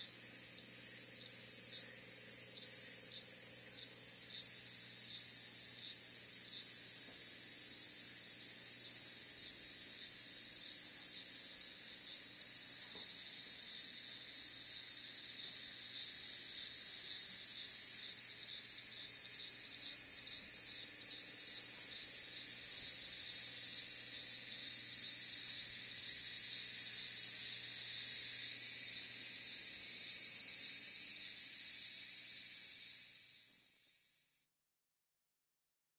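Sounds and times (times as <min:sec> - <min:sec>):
insect chorus: 0:00.0 - 0:34.5.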